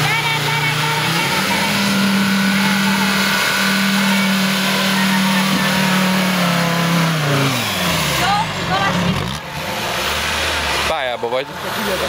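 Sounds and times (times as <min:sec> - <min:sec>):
buggy engine at high revs: 0:00.0 - 0:12.0.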